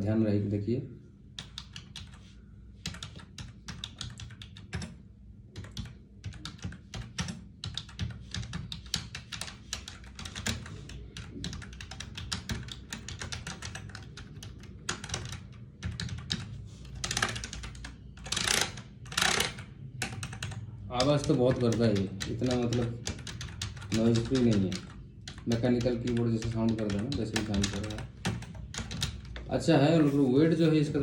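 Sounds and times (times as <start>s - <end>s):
keyboard typing clicks: 1.4s - 2.2s, 2.8s - 5.0s, 5.6s - 29.5s.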